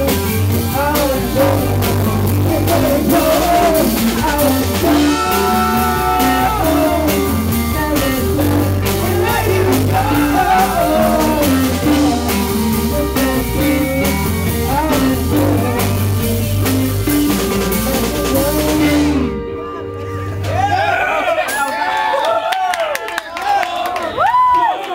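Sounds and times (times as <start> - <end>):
electric guitar: 0.0 - 20.9
drum kit: 0.0 - 21.8.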